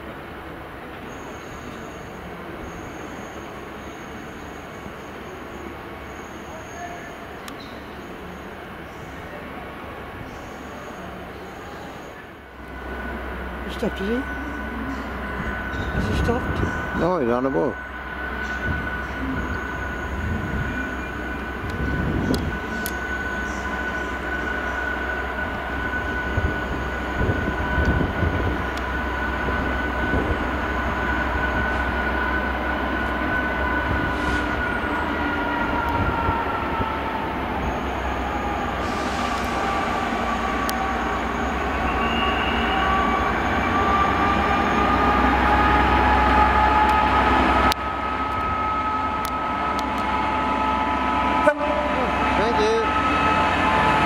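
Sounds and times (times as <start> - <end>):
diesel locomotive rumble: 0.0 - 54.0
locomotive high whine: 0.0 - 54.0.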